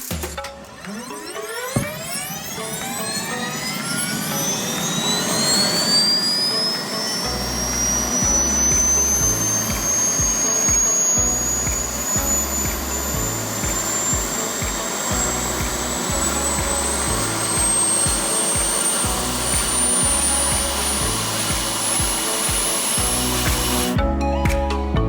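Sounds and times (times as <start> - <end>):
music with steady beat: 0.0 - 25.0
rising whine: 0.0 - 25.0.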